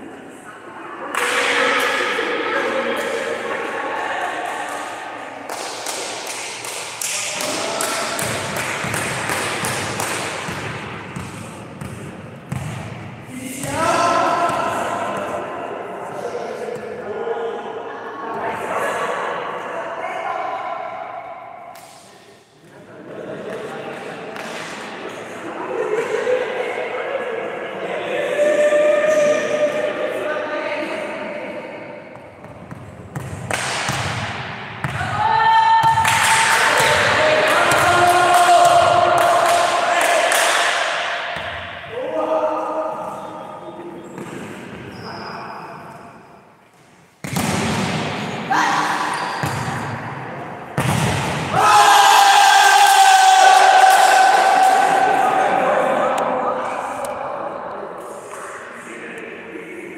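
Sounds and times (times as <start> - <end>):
reverberant sports hall din: 0.0 - 59.9.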